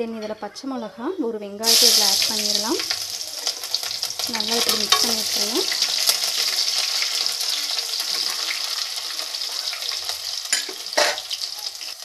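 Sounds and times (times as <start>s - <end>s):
onions sizzling in hot oil: 1.6s - 12.0s
ladle stirring in a pot: 1.7s - 11.5s.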